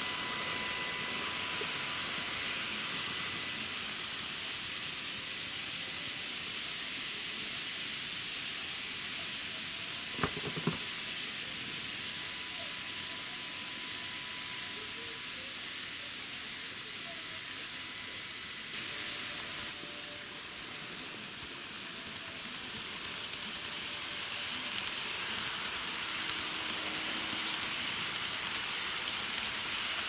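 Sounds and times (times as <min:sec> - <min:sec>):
model train hiss and whine: 0:00.0 - 0:30.0.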